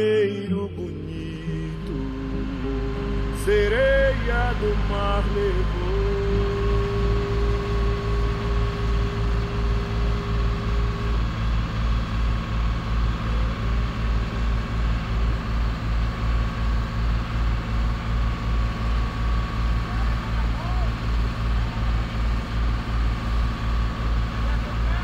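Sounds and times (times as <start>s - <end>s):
boat engine chugging: 0.9s - 25.0s.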